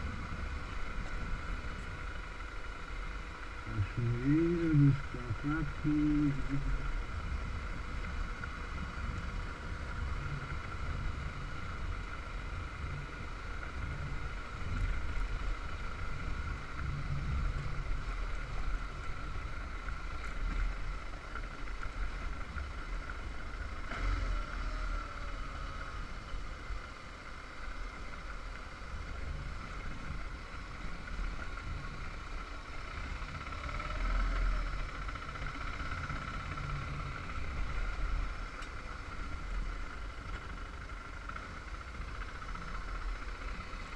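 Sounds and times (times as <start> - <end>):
motorcycle engine rumble: 0.0 - 43.9.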